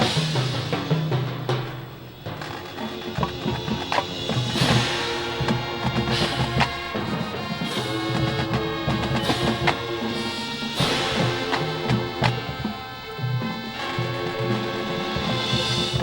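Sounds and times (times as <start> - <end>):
cymbal crashes: 0.0 - 16.0
marching band playing: 0.0 - 16.0.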